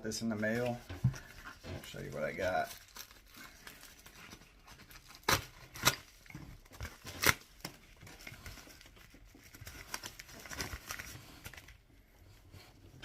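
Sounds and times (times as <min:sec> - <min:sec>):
packaging rustling and crinkling: 0:00.1 - 0:13.0.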